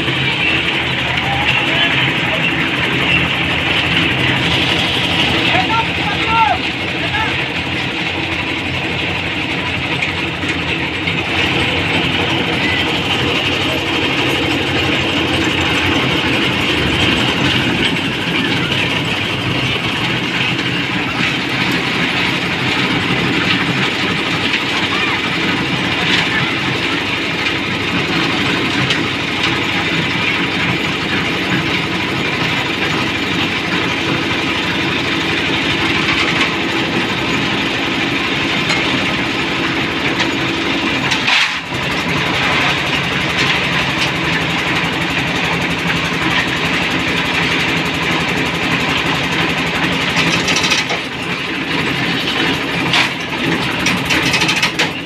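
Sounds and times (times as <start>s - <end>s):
concrete mixer engine running: 0.0s - 55.0s.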